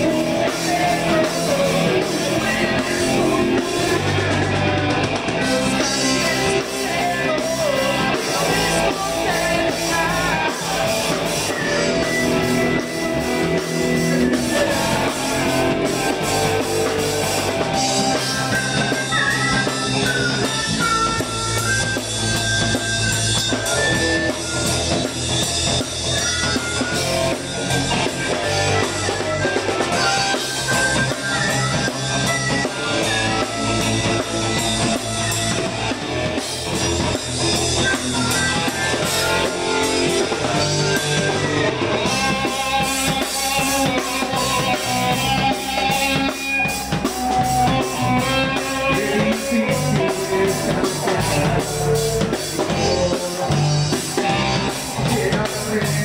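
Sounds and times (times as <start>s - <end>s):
high bending melodic line: 0.0s - 55.8s
drum kit beat: 0.0s - 56.0s
electric guitar: 0.0s - 56.0s.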